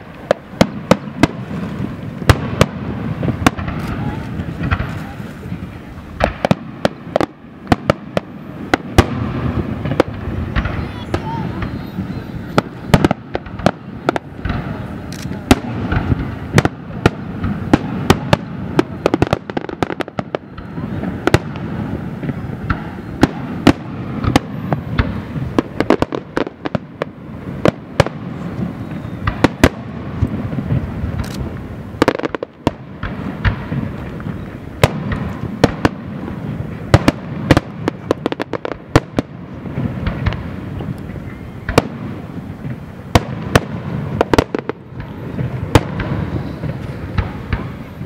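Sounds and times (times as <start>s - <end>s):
fireworks bursting with sharp bangs: 0.0s - 48.0s.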